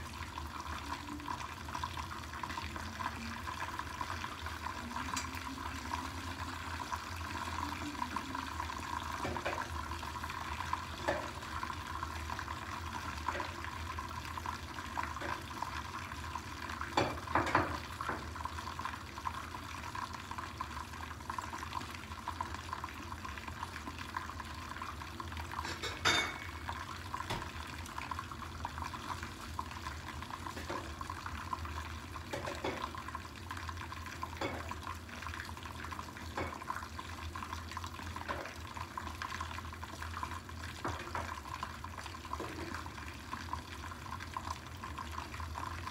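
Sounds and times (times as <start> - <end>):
fish sizzling in hot oil: 0.0 - 45.9
oil popping and crackling: 0.0 - 45.9.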